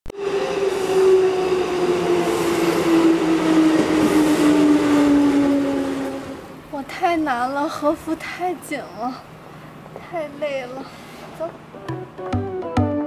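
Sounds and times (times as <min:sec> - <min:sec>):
rumbling rail noise: 0:00.1 - 0:12.1.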